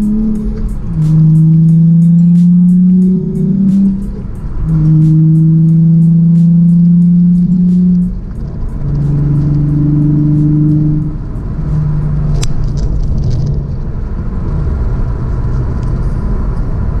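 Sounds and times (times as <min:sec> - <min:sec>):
car engine droning: 0:00.0 - 0:17.0
road rumble: 0:00.0 - 0:17.0.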